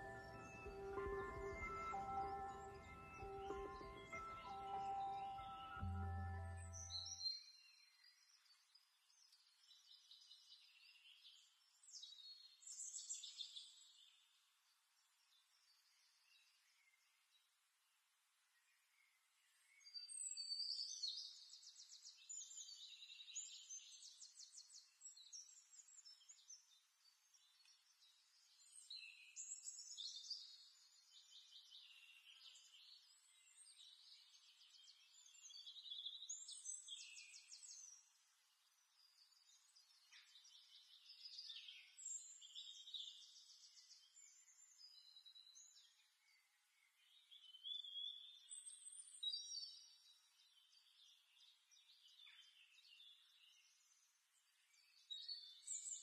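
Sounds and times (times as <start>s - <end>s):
faint birdsong chirps and trills: 0.0s - 56.0s.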